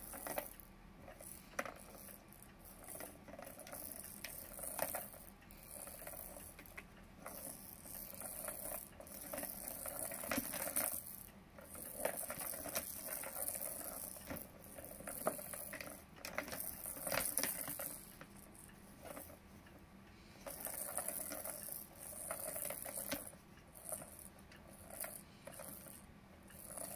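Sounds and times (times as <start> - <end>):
plastic balls rolling and rattling: 0.0 - 19.4, 20.4 - 26.0, 26.6 - 26.9
balls clicking against plastic: 0.0 - 19.8, 20.4 - 26.9.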